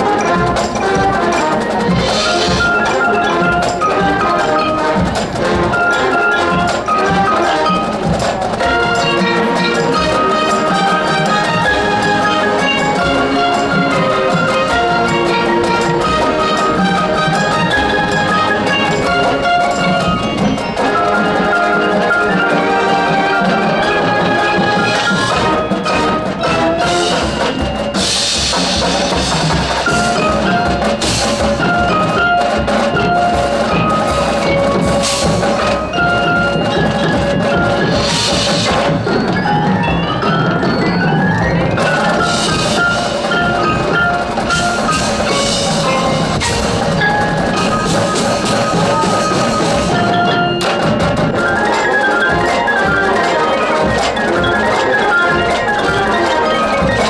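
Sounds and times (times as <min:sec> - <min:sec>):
marching band playing: 0:00.0 - 0:57.0.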